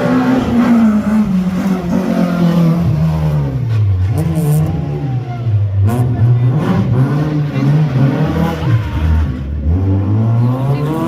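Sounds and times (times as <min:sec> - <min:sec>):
racing engine revving: 0:00.0 - 0:11.0.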